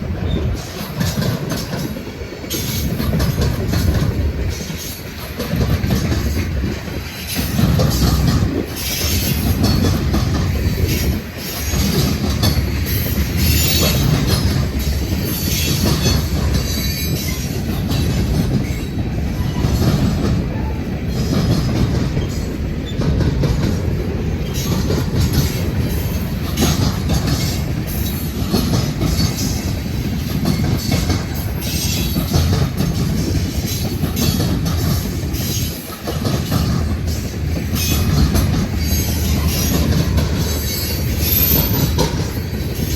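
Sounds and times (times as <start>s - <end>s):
steel wheels rumbling on rail: 0.0s - 42.9s
wheels clattering over rail joints: 0.0s - 42.9s.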